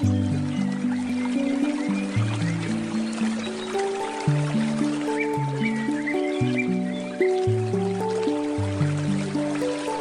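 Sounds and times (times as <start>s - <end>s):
flowing water: 0.0s - 10.0s
handpan melody: 0.0s - 10.0s.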